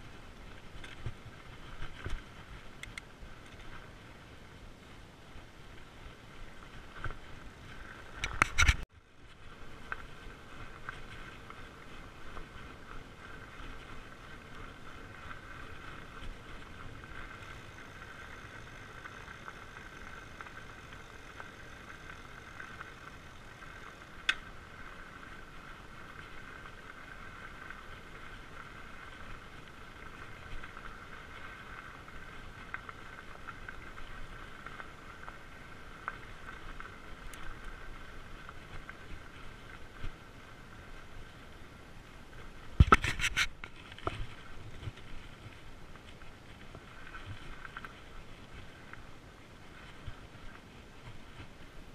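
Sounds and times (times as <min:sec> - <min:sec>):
bike tyres rolling over dirt: 0:00.0 - 0:51.9.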